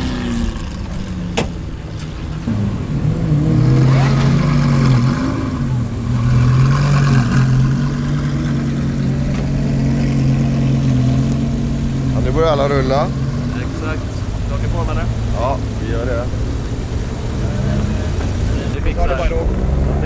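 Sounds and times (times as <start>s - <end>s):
sports car engine running: 0.0s - 20.0s.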